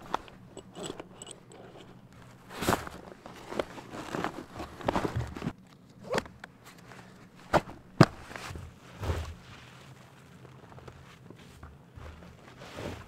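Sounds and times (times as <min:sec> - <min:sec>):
fabric rustling: 0:00.0 - 0:05.6, 0:06.6 - 0:13.0
straps scraping: 0:00.0 - 0:13.0.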